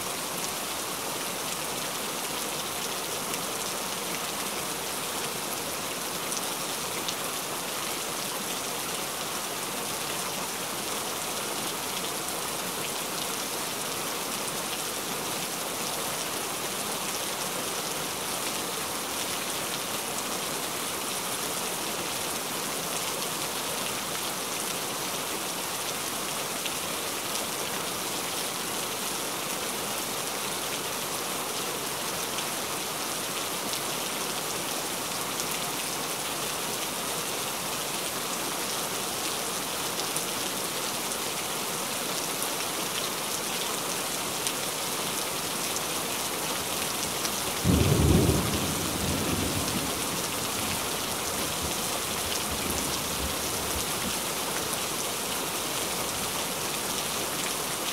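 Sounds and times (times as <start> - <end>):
rain patter: 0.0 - 57.9.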